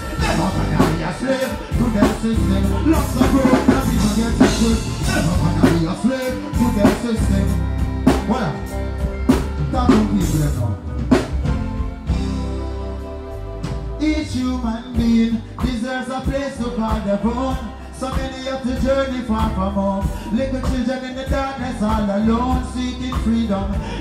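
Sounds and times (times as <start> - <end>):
man singing into a microphone: 0.0 - 8.8, 9.6 - 10.8, 14.0 - 24.0
drum-kit beat: 0.0 - 13.0, 14.9 - 24.0
bass: 0.0 - 24.0
held chords: 0.0 - 24.0.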